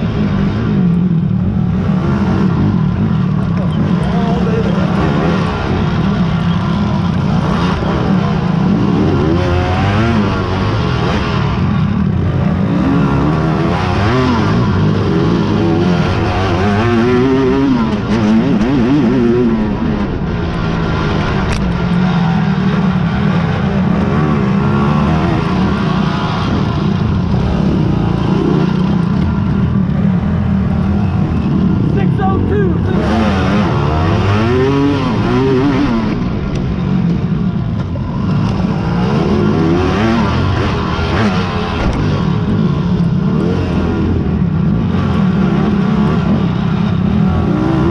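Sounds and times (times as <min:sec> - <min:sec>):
quad engines revving: 0:00.0 - 0:47.9.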